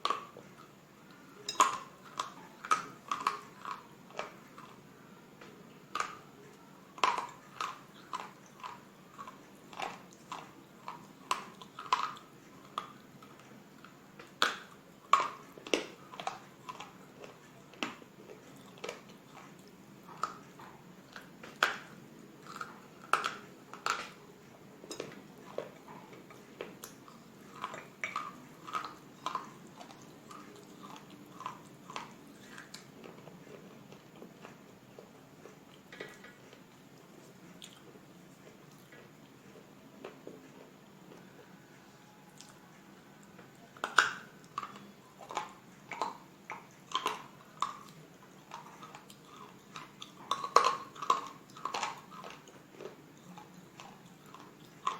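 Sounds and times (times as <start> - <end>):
crunching and chewing: 0.0 - 54.9.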